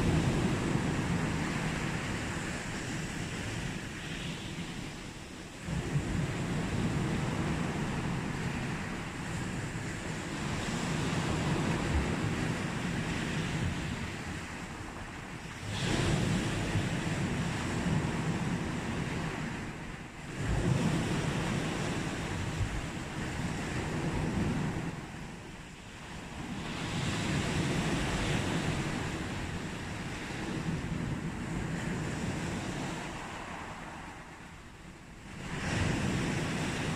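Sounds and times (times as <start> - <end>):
sea waves breaking on beach: 0.0 - 36.9
wind on microphone: 0.0 - 36.9.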